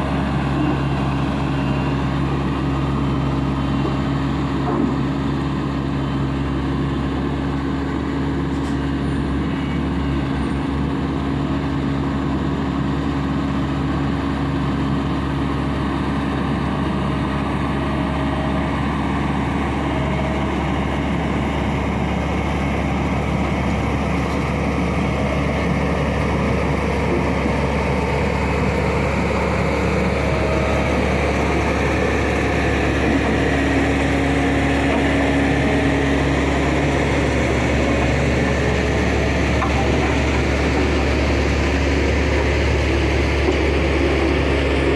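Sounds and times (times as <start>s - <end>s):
diesel machinery engine drone: 0.0s - 44.9s.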